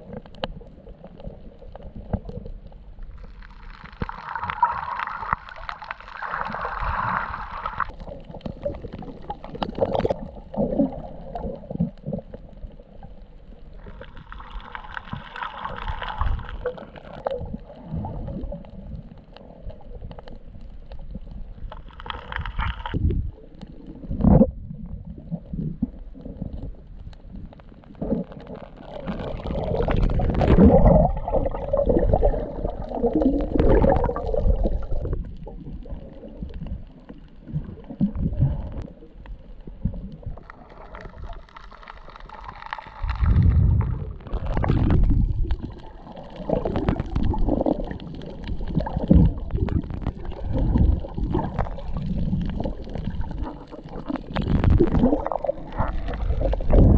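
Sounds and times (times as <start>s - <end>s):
muffled underwater rumbling: 0.0s - 56.9s.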